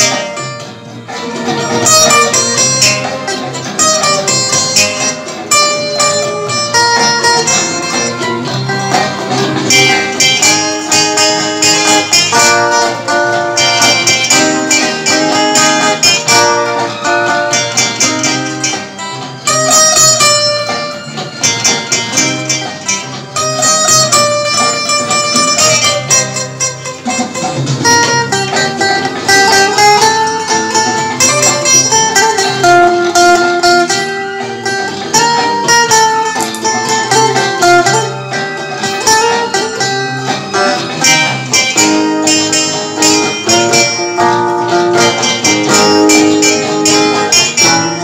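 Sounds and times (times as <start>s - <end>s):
acoustic guitars playing: 0.0s - 48.0s.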